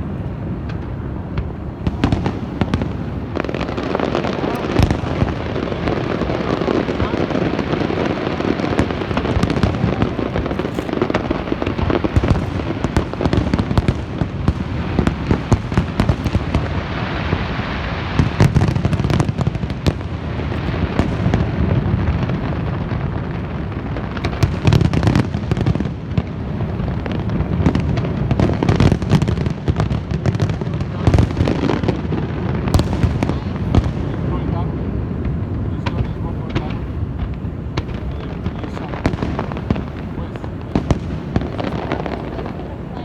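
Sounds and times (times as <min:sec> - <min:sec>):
fireworks cracking and popping: 0:00.0 - 0:43.0
low rumble of firework bursts: 0:00.0 - 0:43.0.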